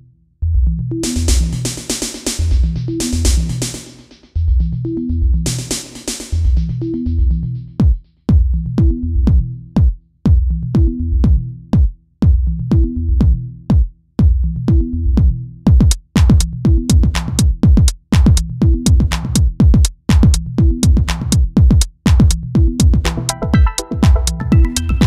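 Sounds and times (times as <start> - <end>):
electronic music with drum beat: 1.0 - 25.0.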